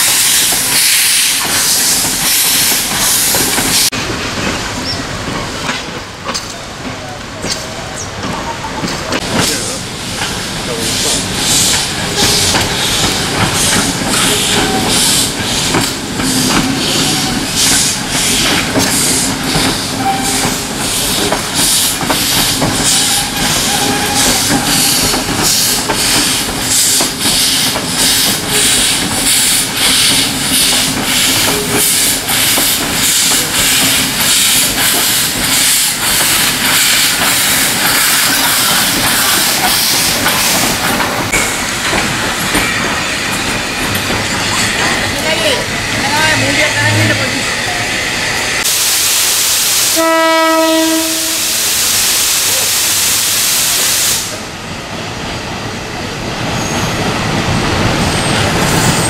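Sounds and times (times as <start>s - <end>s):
steam hissing: 0.0s - 4.0s, 9.2s - 54.6s
steam locomotive chuffing: 0.0s - 54.5s.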